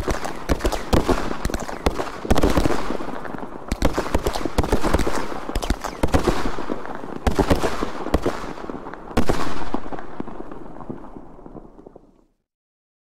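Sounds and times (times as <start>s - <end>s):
fireworks bangs and crackling: 0.0s - 12.3s.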